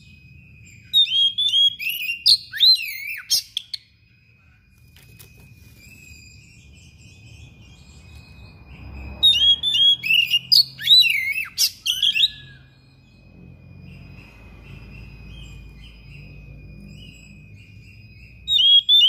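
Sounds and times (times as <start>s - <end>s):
thin steady high tone: 0.0s - 9.2s, 9.9s - 18.6s
bird singing whistled phrases: 0.0s - 19.0s.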